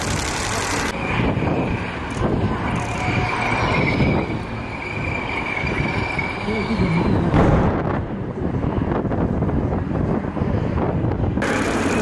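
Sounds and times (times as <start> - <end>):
armoured vehicle engines and tyres: 0.0 - 12.0.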